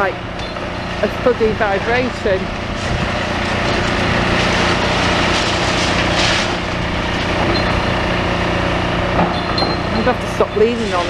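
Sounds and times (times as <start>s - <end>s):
excavator engines droning: 0.0s - 11.0s
grinding noise: 0.0s - 11.0s.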